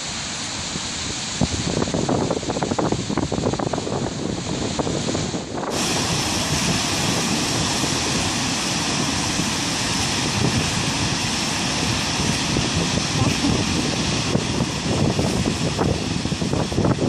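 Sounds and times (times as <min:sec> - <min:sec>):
large waterfall rushing: 0:00.0 - 0:17.0.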